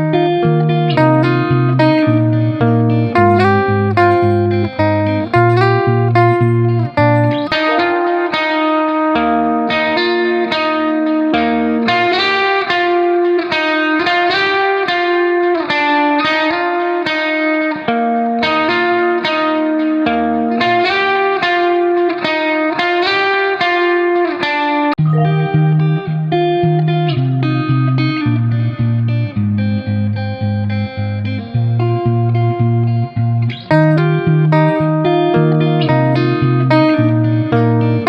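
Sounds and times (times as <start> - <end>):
plucked guitar background music: 0.0 - 38.0.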